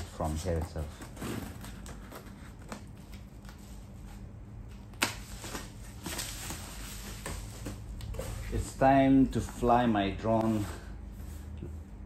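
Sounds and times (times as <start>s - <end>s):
cardboard and tape rustling: 0.0s - 11.4s.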